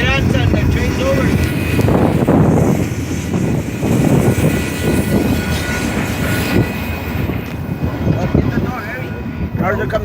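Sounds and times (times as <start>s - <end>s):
moving vehicle rumble: 0.0s - 10.0s.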